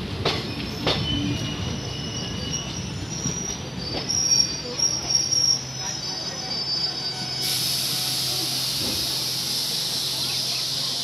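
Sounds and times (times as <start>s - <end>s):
train wheels squealing: 0.3s - 11.0s.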